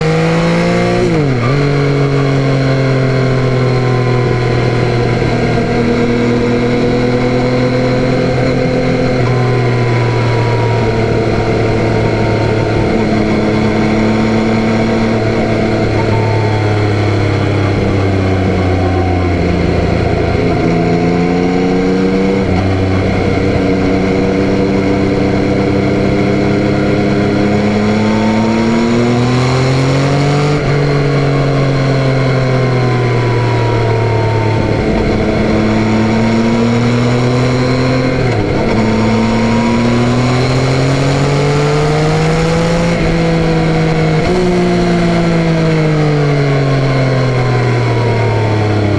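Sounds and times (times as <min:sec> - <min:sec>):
motorcycle engine riding: 0:00.0 - 0:48.9.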